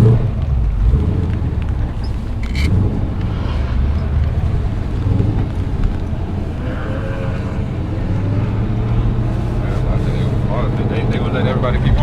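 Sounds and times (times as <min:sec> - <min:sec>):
car engine rumbling at low revs: 0:00.0 - 0:12.0.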